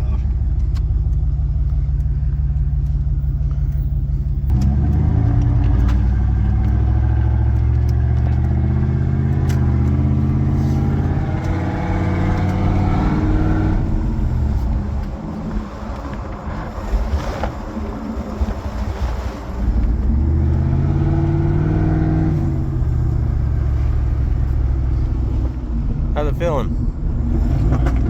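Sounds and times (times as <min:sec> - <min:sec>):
truck engine accelerating: 0:00.0 - 0:28.0.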